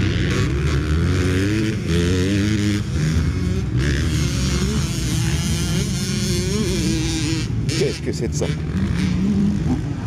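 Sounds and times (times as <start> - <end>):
motocross bike engine revving: 0.0 - 10.0.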